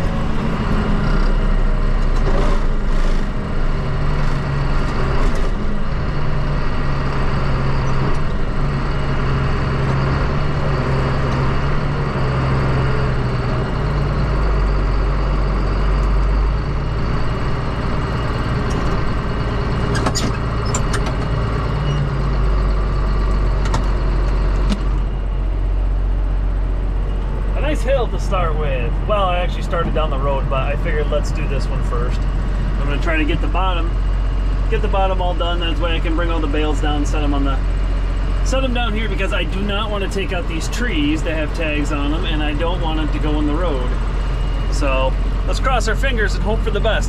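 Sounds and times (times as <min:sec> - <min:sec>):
tractor engine droning: 0:00.0 - 0:47.0.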